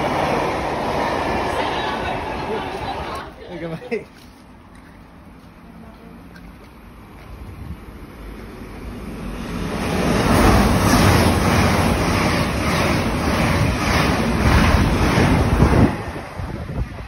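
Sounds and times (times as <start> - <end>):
passenger train passing at speed: 0.0 - 17.0.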